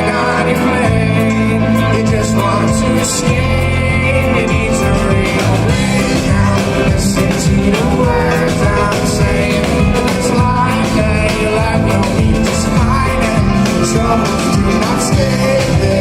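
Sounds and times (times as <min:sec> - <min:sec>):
bass guitar: 0:00.0 - 0:16.0
drums: 0:00.0 - 0:16.0
lead guitar lines: 0:00.0 - 0:16.0.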